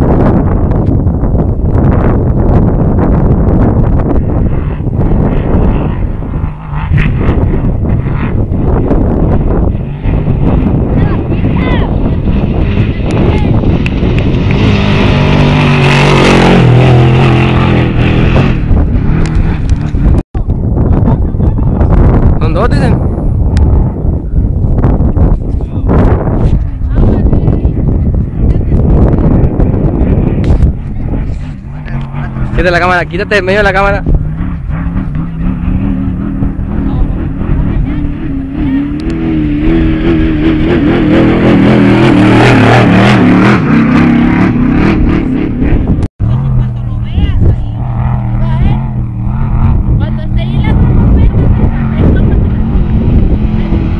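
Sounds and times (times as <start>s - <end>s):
race truck engine passing: 2.9s - 20.2s, 27.0s - 53.9s.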